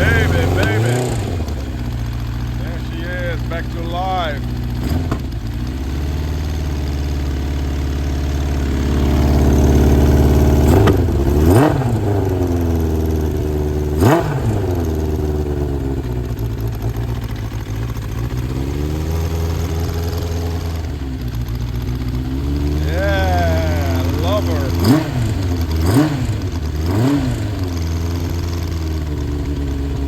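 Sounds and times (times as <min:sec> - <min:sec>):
engine throttle blips: 0:00.0 - 0:30.0
motorcycle engine idling unevenly: 0:00.0 - 0:30.0.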